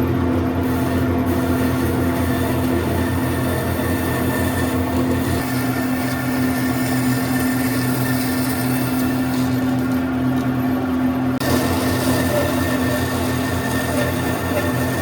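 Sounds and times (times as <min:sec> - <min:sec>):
power tool motor hum: 0:00.7 - 0:10.2, 0:11.4 - 0:15.0.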